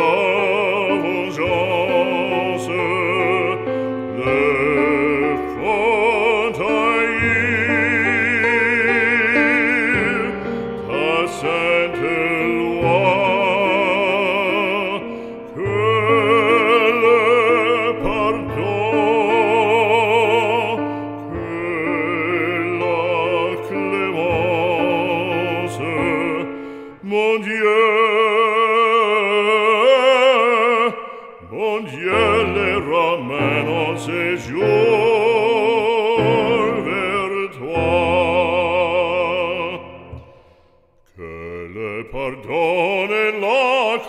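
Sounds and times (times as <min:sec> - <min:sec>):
hymn sung operatically: 0:00.0 - 0:44.0.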